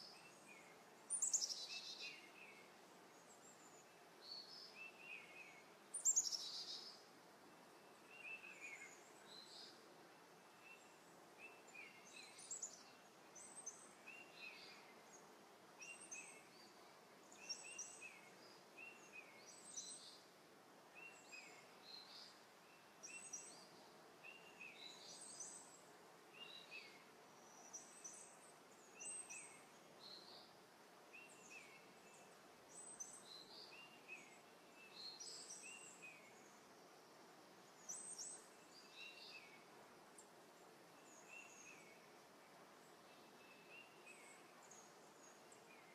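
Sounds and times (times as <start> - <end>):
faint bird chirps: 0.0 - 45.9
low hiss: 0.0 - 45.9.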